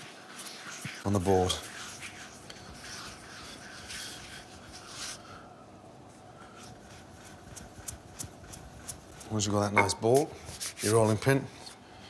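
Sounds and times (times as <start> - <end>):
hands rubbing dough on board: 0.0 - 5.5, 6.4 - 11.4.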